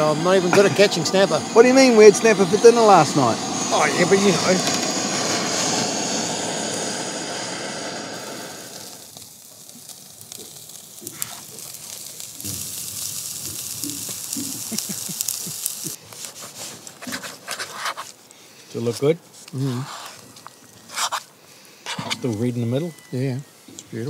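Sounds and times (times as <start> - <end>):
steaks sizzling on grill: 0.0 - 17.0, 18.1 - 24.0
butane torch hissing: 0.0 - 24.0.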